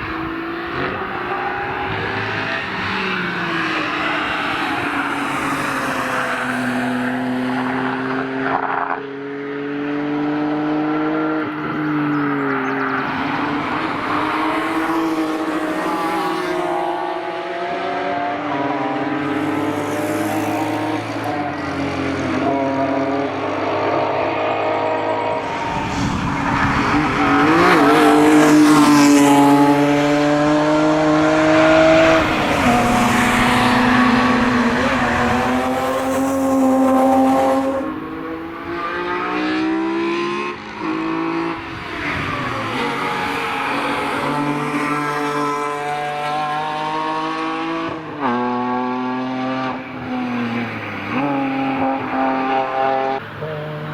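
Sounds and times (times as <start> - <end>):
race cars passing at speed: 0.0 - 53.9.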